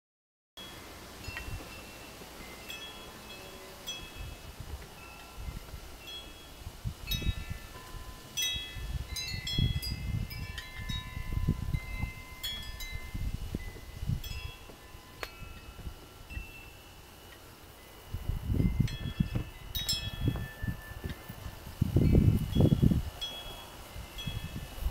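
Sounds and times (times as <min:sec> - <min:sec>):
wind chimes ringing: 0:00.6 - 0:24.9.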